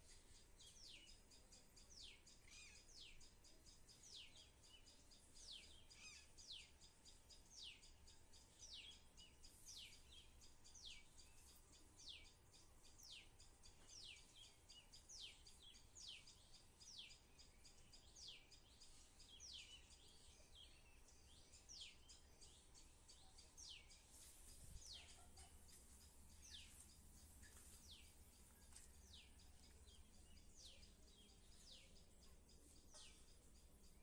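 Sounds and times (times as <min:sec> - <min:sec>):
bird chirps: 0:00.0 - 0:34.0.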